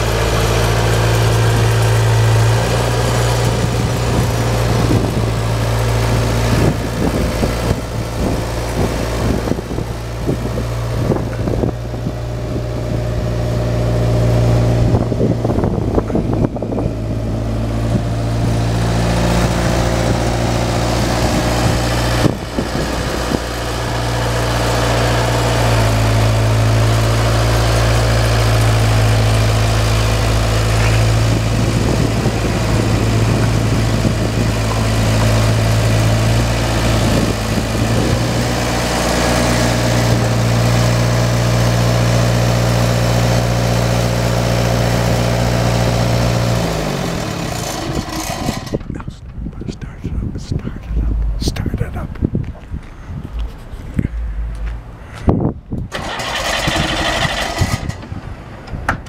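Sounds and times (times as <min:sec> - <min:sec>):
loader engine running: 0:00.0 - 0:59.0.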